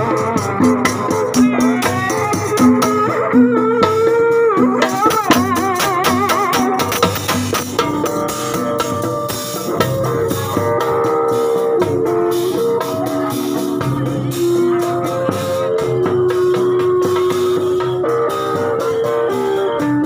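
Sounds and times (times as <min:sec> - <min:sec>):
electric guitar melody: 0:00.0 - 0:20.0
percussion with cymbal hits: 0:00.0 - 0:20.0.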